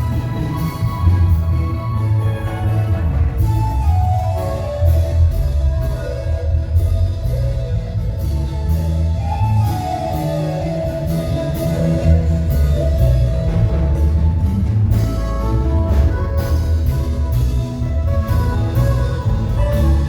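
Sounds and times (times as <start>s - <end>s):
bass line: 0.0s - 20.0s
drum kit beat with cymbals: 0.0s - 20.0s
live band playing: 0.0s - 20.0s
sliding lead melody: 0.0s - 20.0s.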